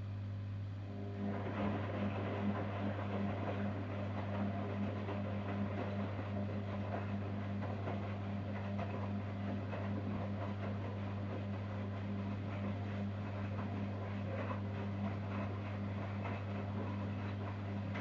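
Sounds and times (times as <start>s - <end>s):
washer-dryer humming: 0.0s - 18.0s.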